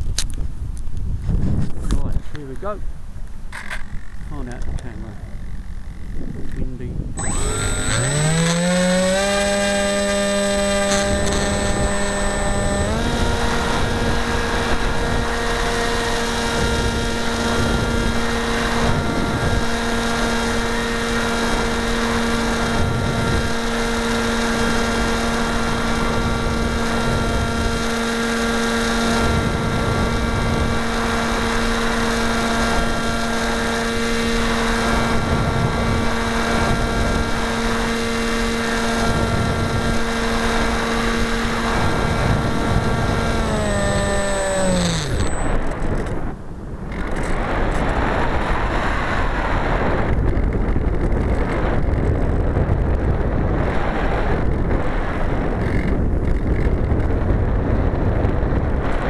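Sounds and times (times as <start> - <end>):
wind rumbling on microphone: 0.0 - 59.0
model plane motor whine: 3.5 - 52.4, 53.7 - 59.0.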